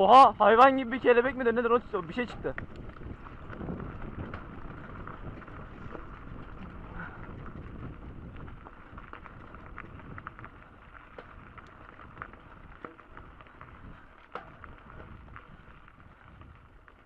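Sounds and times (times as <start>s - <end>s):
bicycle rattling clicks: 0.0s - 17.0s
wind on microphone: 1.4s - 16.8s.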